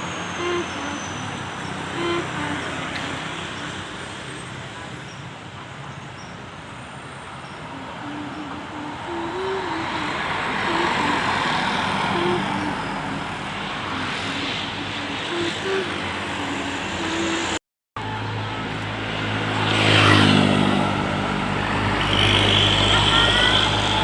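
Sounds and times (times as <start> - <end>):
bus engine passing: 0.0 - 5.9, 6.5 - 24.0
traffic noise: 0.0 - 24.0.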